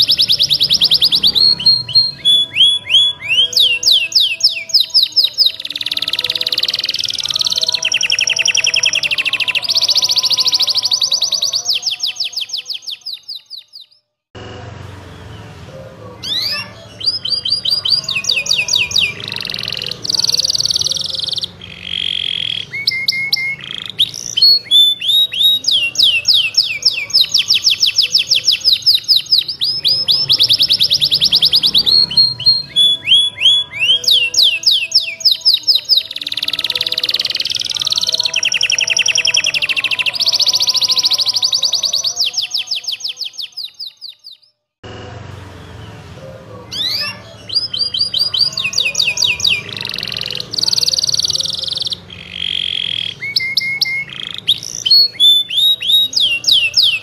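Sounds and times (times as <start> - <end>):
canary singing trills: 0.0 - 14.1, 15.0 - 44.6, 45.6 - 57.0.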